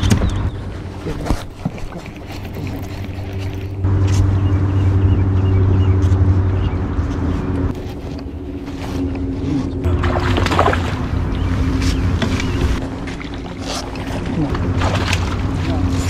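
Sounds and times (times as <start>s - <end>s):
electric trolling motor humming: 0.0s - 16.0s.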